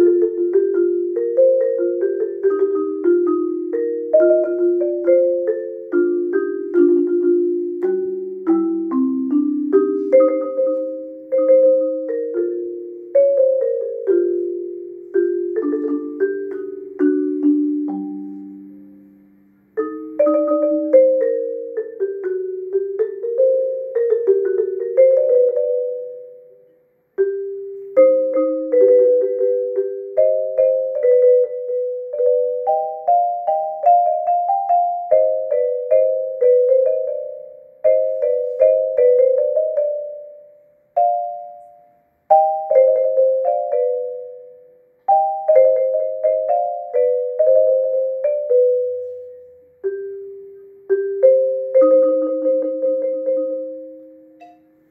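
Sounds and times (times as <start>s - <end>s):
marimba melody: 0.0s - 54.9s.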